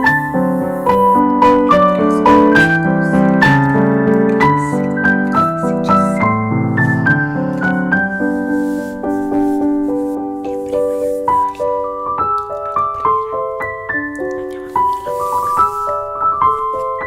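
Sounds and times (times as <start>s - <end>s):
piano melody with chords: 0.0s - 17.0s.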